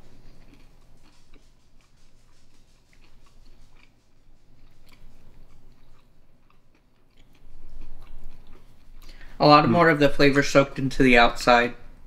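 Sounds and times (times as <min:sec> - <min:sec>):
close chewing: 0:00.0 - 0:09.8
steady low hum: 0:00.0 - 0:12.0.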